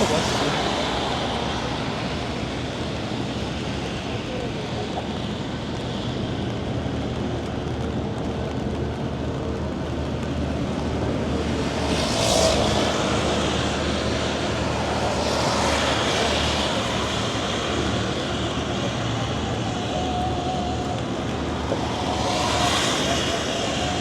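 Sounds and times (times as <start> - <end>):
city traffic rumble: 0.0 - 24.0
vehicles passing: 0.0 - 24.0.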